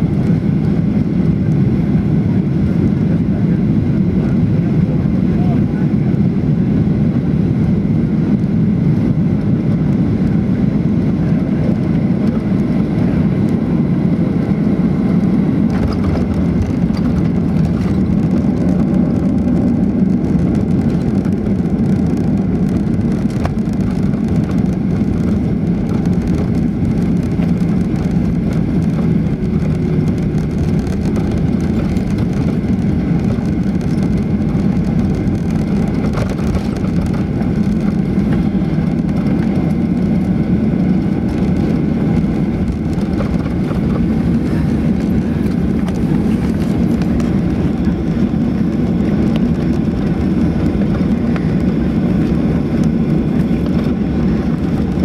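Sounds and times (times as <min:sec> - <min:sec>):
airplane cabin noise on landing: 0:00.0 - 0:55.0.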